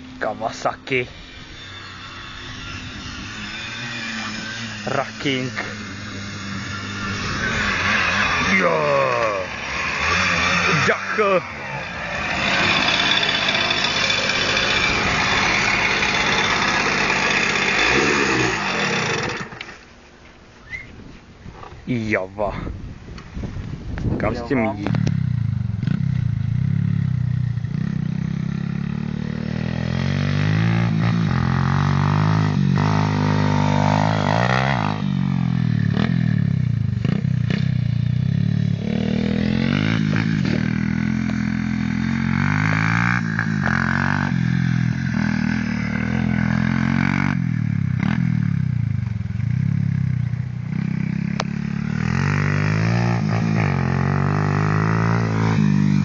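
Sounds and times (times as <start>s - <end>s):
motorcycle engines revving: 0.0s - 20.0s, 24.0s - 56.0s.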